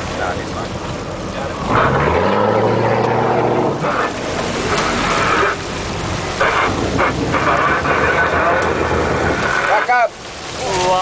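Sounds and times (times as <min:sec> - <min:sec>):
boat engine running: 0:00.0 - 0:11.0
water rushing: 0:00.0 - 0:11.0.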